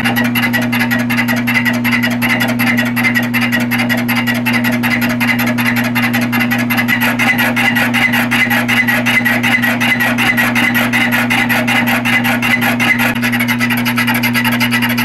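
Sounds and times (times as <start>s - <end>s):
milling machine hum: 0.0s - 15.0s.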